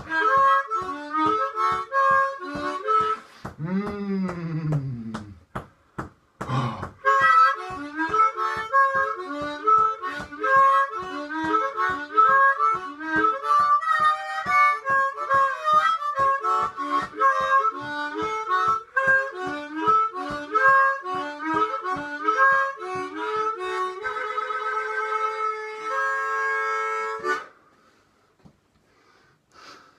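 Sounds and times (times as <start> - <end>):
harmonica boogie: 0.0 - 5.2, 6.4 - 28.0.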